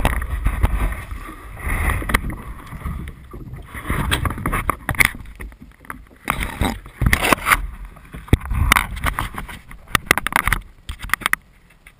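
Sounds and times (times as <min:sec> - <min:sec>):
rustling and scraping: 0:00.0 - 0:11.9.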